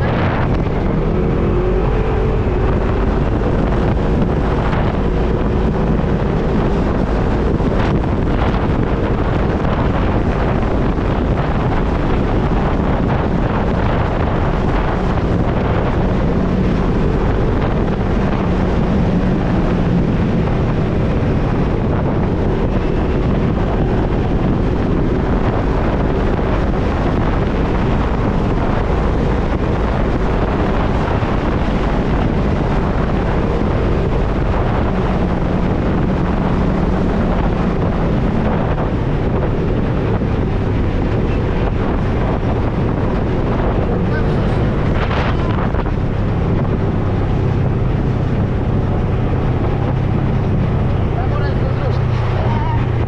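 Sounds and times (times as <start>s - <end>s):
vehicle engine running: 0.0s - 53.0s
wind buffeting microphone: 0.0s - 53.0s.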